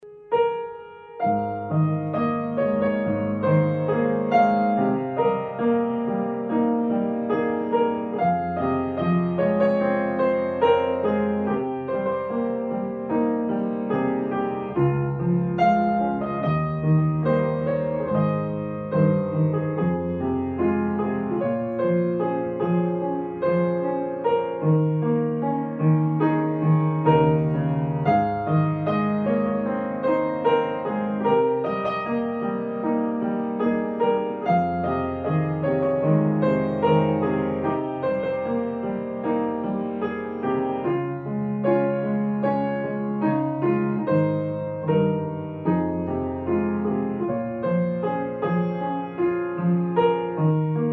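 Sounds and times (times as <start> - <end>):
piano music: 0.0 - 50.9.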